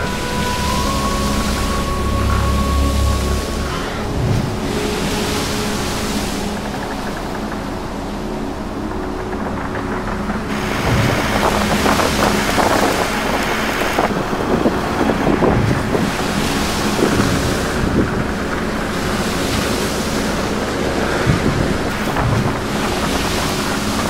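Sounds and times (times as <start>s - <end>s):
car running hum: 0.0s - 24.0s
wind buffeting microphone: 0.0s - 24.0s.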